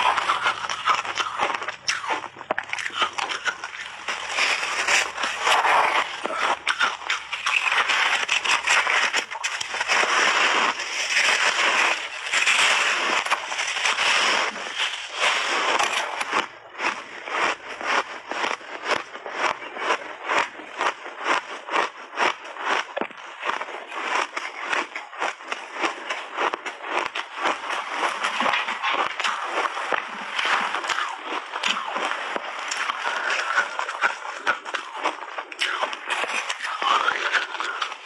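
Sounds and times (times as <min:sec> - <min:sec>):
chewing crunches of ice: 0:00.0 - 0:38.0.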